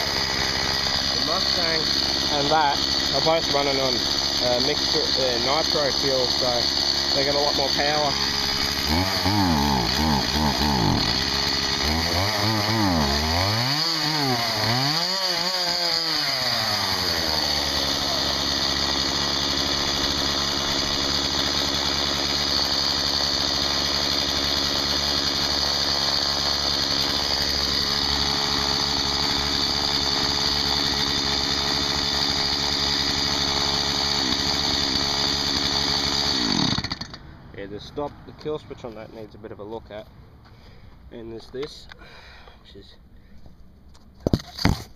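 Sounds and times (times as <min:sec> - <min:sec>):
chainsaw engine revving and idling: 0:00.0 - 0:37.2.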